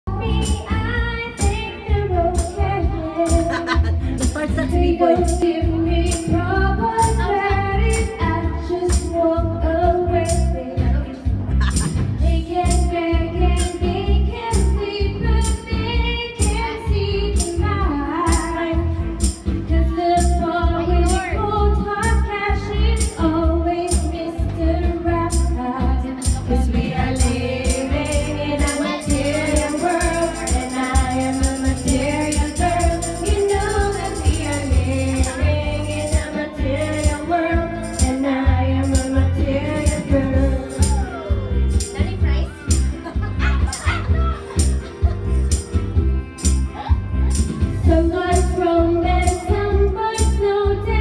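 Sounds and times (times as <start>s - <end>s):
woman singing karaoke: 0.1s - 42.5s, 46.8s - 51.0s
pop backing track with beat: 0.1s - 51.0s.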